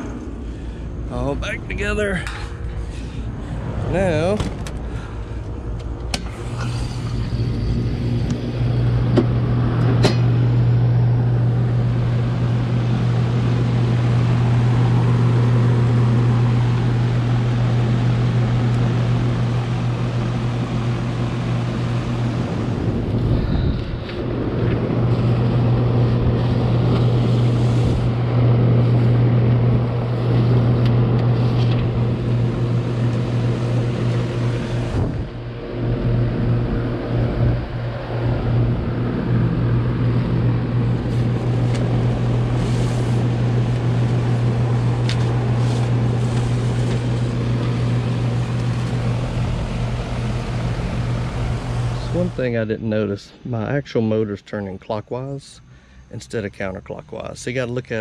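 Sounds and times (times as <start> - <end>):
fan air rushing: 0.0 - 58.0
heat pump unit humming: 0.0 - 58.0.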